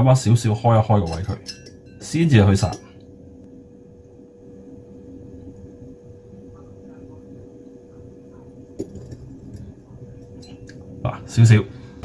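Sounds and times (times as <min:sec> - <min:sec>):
low kitchen hum: 0:00.0 - 0:12.0
thin steady tone: 0:00.1 - 0:12.0.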